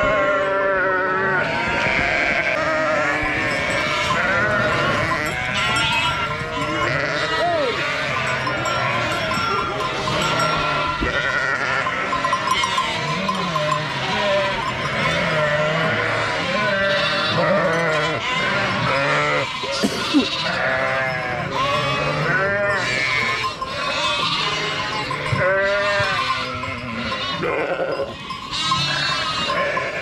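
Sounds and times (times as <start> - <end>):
sheep bleating: 0.0 - 30.0.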